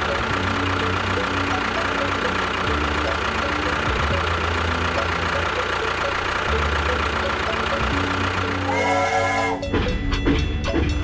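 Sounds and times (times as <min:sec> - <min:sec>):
engine idling: 0:00.0 - 0:10.7.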